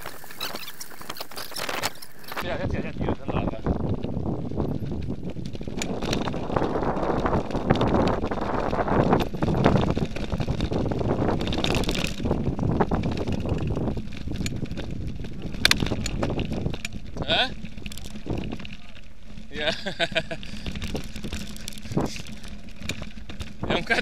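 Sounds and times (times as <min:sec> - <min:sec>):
bike rattling over bumps: 0:00.0 - 0:24.0
bike tyres crunching on gravel: 0:00.0 - 0:24.0
wind buffeting microphone: 0:00.0 - 0:24.0.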